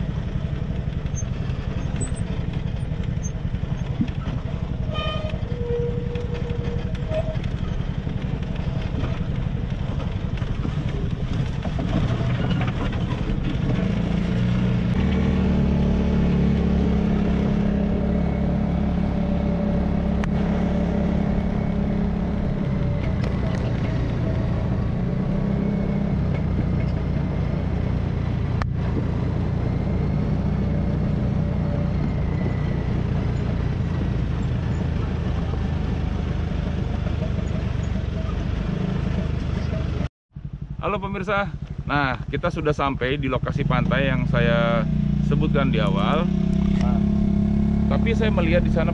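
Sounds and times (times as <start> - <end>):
off-road vehicle engine running: 0.0 - 48.9.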